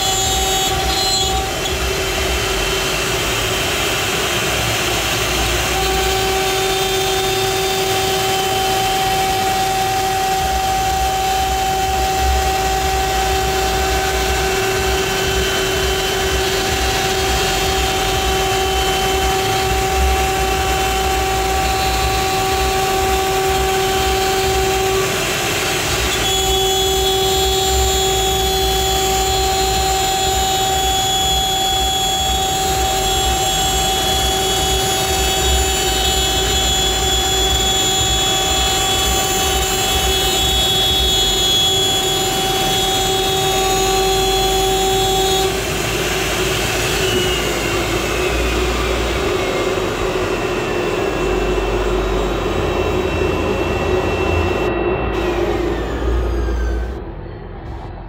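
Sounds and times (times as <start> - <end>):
router spindle whine: 0.0 - 58.0
wood cutting noise: 0.0 - 58.0.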